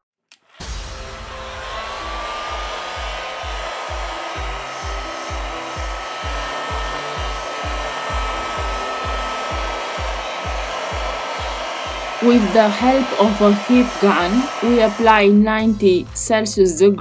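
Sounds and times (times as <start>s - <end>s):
hot air gun blowing: 0.6s - 15.7s
background music with low beat: 0.6s - 17.0s.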